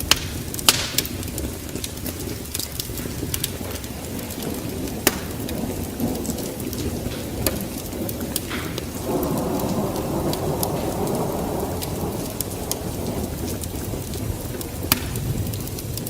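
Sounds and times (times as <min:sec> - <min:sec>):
low rumble of thunder: 0:00.0 - 0:16.0
sharp crackles: 0:00.0 - 0:16.0
steady rain: 0:00.0 - 0:16.0.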